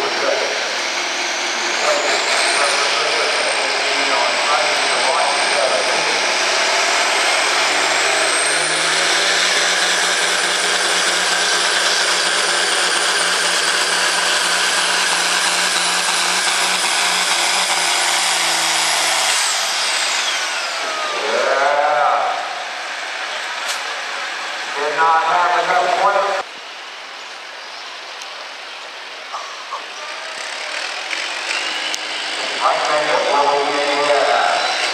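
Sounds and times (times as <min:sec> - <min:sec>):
tractor diesel engine at full throttle: 0:00.0 - 0:26.5, 0:29.3 - 0:34.9.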